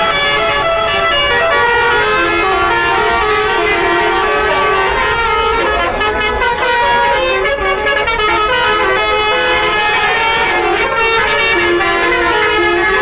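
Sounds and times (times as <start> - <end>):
multi-tone bus horns melody: 0.0 - 13.0.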